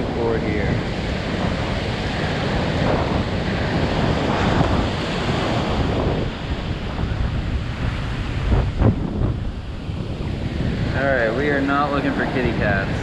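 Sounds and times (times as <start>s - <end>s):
surf and rough water: 0.0s - 13.0s
wind buffeting microphone: 0.0s - 13.0s.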